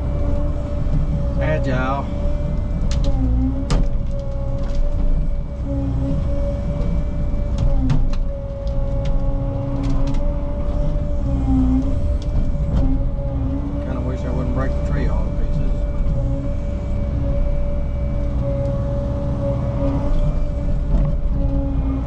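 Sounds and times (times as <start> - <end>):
diesel engine under load: 0.0 - 22.0
hydraulic whine: 0.0 - 22.0.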